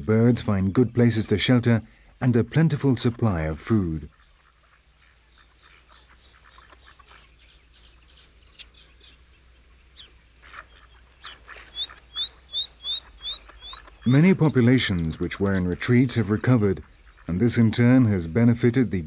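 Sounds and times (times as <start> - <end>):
wetland birds calling: 0.0 - 19.0.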